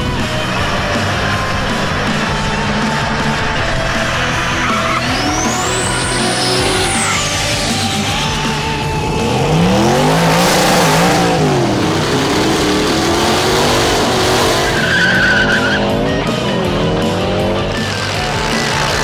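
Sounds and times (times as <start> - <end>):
car engines revving: 0.0 - 19.0
music track: 0.0 - 19.0
tyres squealing: 0.0 - 19.0.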